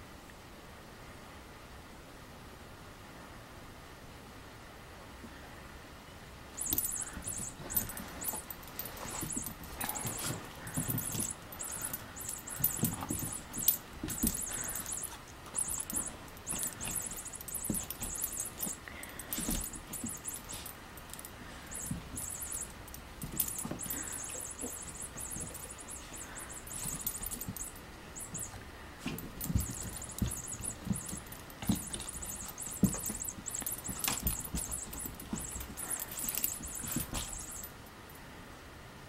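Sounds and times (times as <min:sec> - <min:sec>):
toy and paws scuffling on carpet: 0:06.6 - 0:37.8
cat toy ball jingling: 0:06.6 - 0:37.9.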